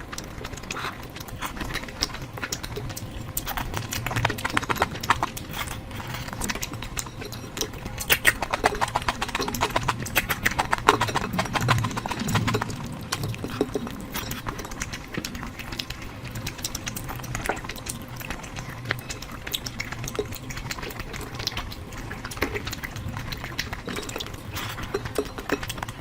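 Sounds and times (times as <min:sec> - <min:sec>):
chewing with wet mouth clicks: 0:00.0 - 0:26.0.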